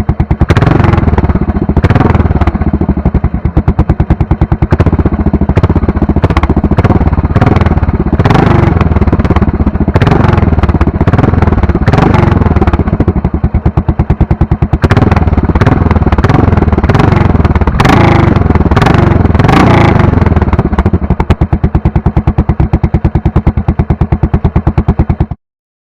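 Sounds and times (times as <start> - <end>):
motorcycle engine idling and revving: 0.0 - 25.4.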